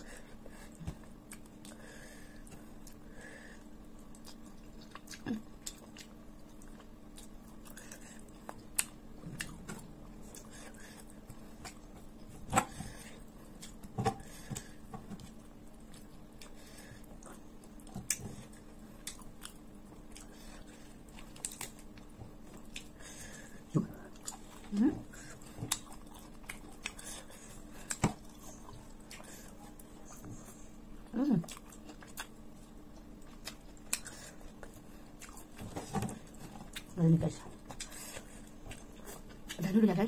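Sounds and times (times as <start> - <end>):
person chewing: 0.0 - 39.6
faint steady hum: 0.0 - 40.0.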